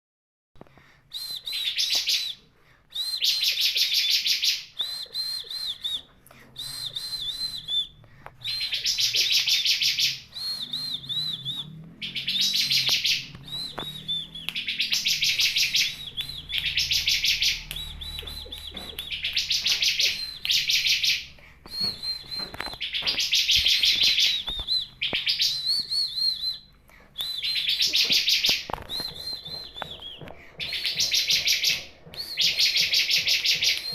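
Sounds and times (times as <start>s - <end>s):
bird whistles and buzzy trills: 3.0s - 33.9s.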